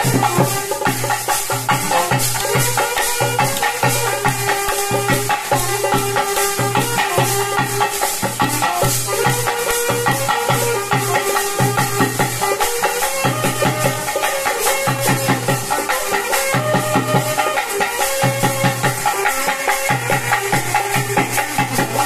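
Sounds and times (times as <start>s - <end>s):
rattling percussion beat: 0.0s - 22.0s
steady drumming: 0.0s - 22.0s
wind instrument melody: 0.0s - 22.0s.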